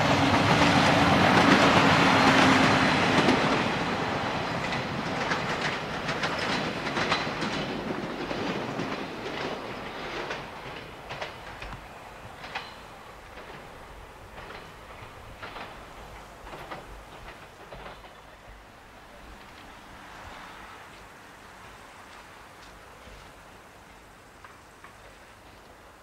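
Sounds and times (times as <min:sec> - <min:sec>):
train engine and wheel noise: 0:00.0 - 0:26.0
wheels clicking over rail joints: 0:00.0 - 0:26.0.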